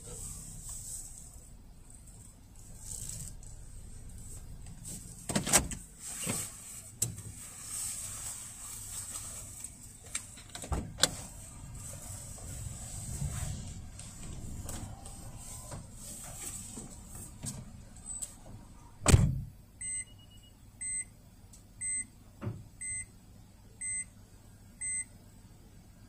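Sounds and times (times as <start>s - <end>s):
muffled car wash hum: 0.0s - 26.0s.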